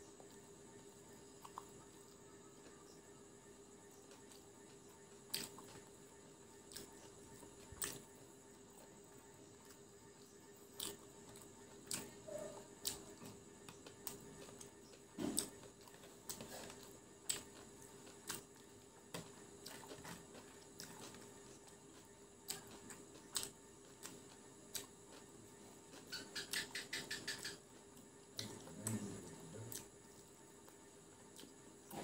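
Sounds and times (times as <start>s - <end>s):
crunchy chewing: 0.0s - 32.0s
faint steady hum: 0.0s - 32.0s.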